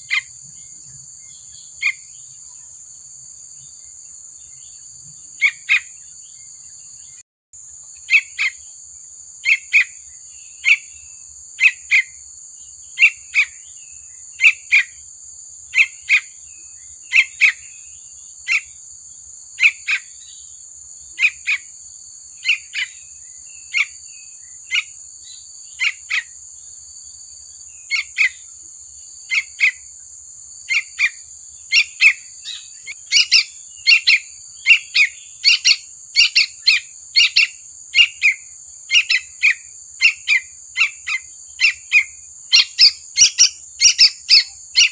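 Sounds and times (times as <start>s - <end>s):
bird chirping: 0.0s - 44.9s
high insect drone: 0.0s - 44.9s.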